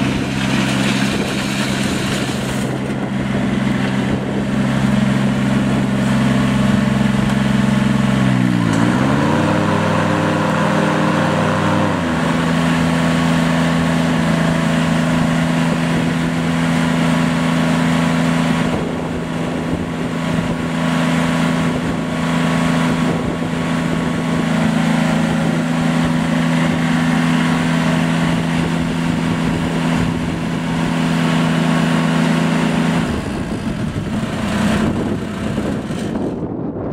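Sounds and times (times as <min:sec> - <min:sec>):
garden tractor engine running: 0:00.0 - 0:36.9.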